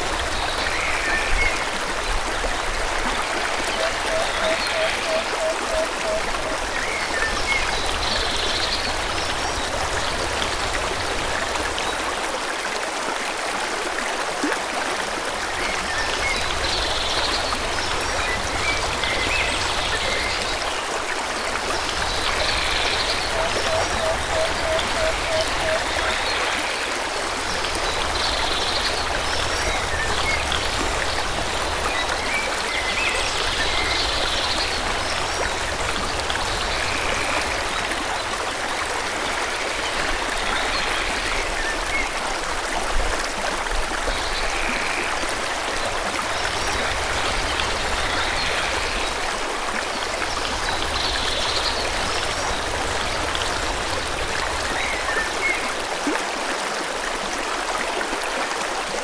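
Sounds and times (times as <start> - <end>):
flowing forest stream: 0.0 - 59.0.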